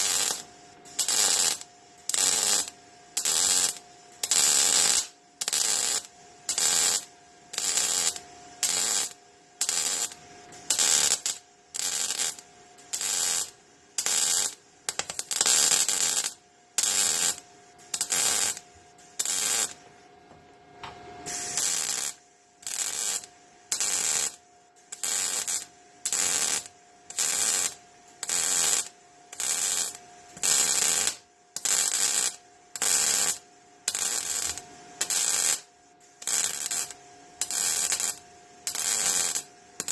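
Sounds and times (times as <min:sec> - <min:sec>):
welding arc crackle: 0:00.0 - 0:19.8, 0:21.2 - 0:39.9
faint steady hum: 0:00.0 - 0:39.9.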